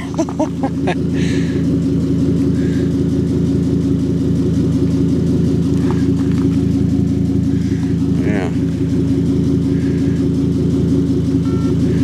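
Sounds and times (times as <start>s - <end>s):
truck exhaust idling: 0.0s - 12.0s.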